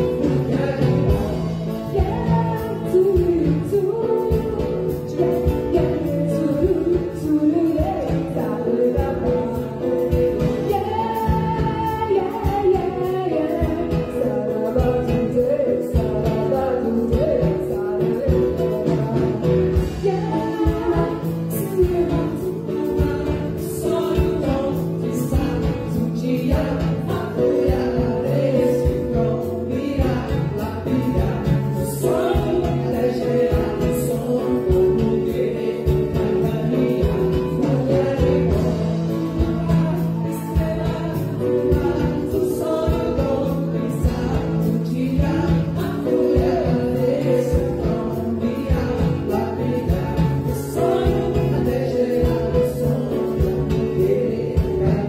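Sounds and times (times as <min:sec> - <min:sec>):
acoustic guitars: 0:00.0 - 0:55.0
vocal group singing: 0:00.0 - 0:55.0.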